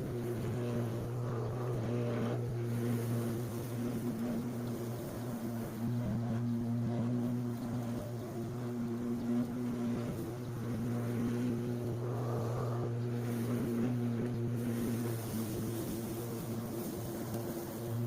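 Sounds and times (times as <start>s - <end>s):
small petrol engine droning: 0.0s - 18.0s.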